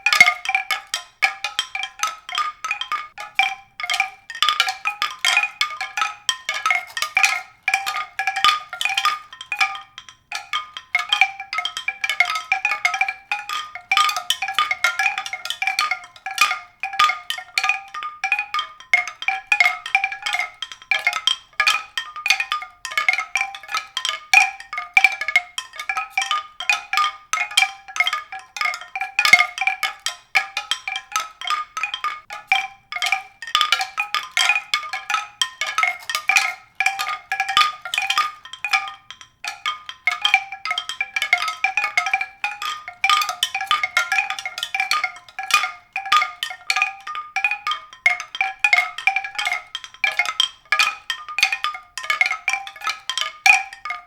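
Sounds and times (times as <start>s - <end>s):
mallet percussion strikes: 0.0s - 54.0s.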